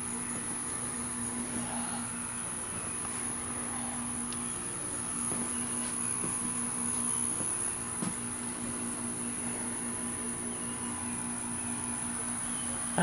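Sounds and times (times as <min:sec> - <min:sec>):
insects chirring: 0:00.0 - 0:13.0
low steady hum: 0:00.0 - 0:13.0.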